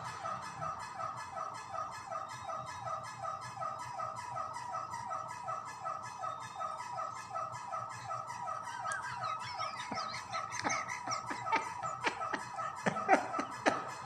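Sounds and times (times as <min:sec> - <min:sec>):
electric fan running: 0:00.0 - 0:14.0
squeaky chirp: 0:00.0 - 0:14.0.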